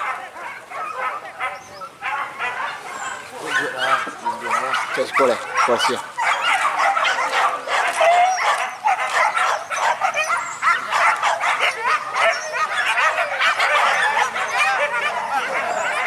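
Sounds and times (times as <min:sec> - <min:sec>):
dogs barking and yelping: 0:00.0 - 0:16.0.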